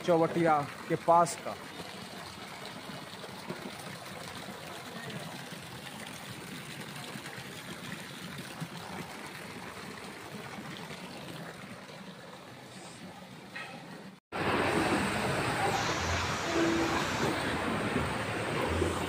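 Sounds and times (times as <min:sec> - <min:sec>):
floodwater rushing across street: 0:00.0 - 0:12.8, 0:14.3 - 0:19.0.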